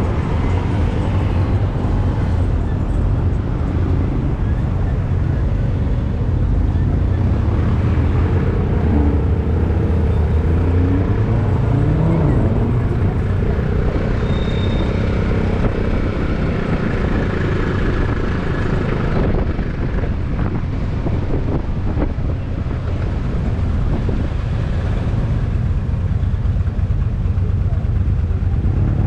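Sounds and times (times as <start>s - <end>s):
city traffic: 0.0s - 29.0s.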